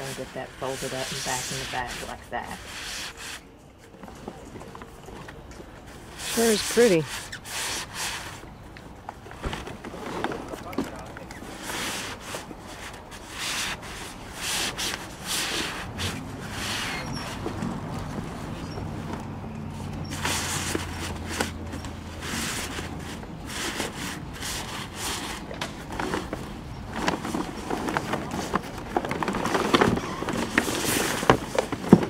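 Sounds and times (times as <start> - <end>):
sailcloth rustling and crackling: 0.0 - 32.0.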